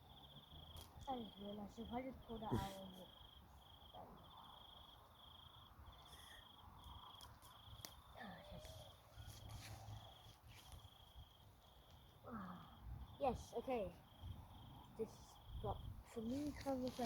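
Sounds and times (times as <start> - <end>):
insect chirping trills: 0.0 - 17.0.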